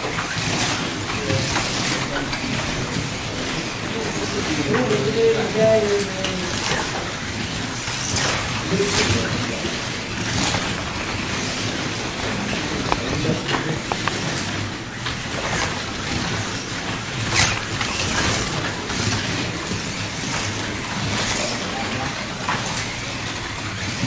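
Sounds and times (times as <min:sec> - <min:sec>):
slot cars whirring: 0:00.0 - 0:24.0.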